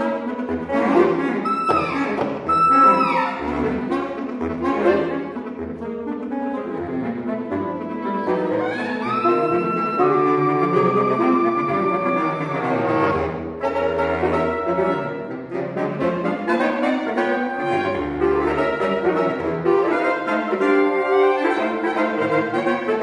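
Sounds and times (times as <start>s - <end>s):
saxophone quartet playing tango: 0.0s - 23.0s.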